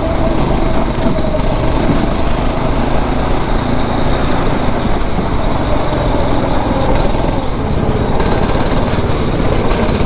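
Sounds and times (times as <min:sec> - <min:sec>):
kart engine running: 0:00.0 - 0:10.0.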